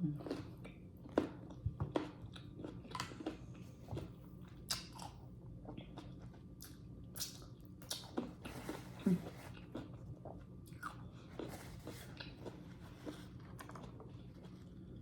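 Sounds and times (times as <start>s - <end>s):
person chewing juicy fruit: 0.0s - 15.0s.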